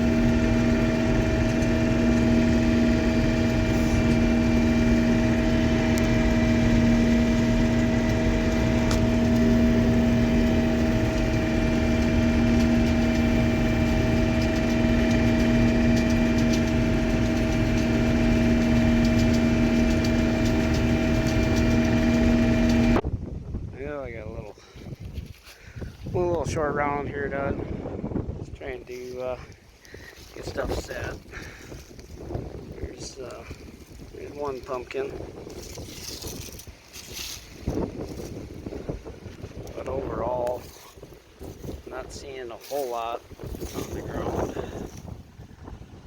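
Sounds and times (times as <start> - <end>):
combine harvester running: 0.0 - 23.0, 24.3 - 46.0.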